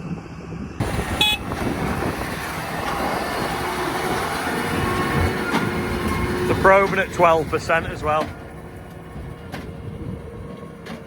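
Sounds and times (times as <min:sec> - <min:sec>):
tractor and machinery running: 0:00.0 - 0:11.0.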